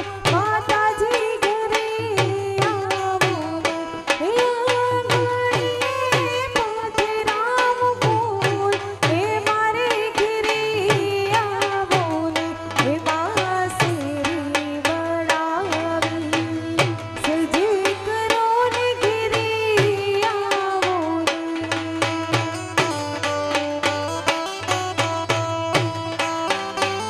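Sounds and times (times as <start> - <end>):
harmonium: 0.0 - 27.0.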